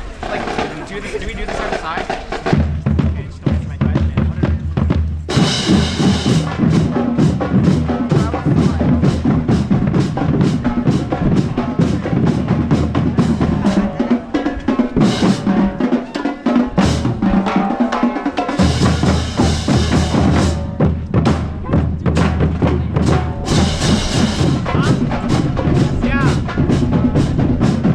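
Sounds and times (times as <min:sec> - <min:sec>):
bass and snare drums beat: 0:00.0 - 0:27.9
marching band playing: 0:00.0 - 0:27.9.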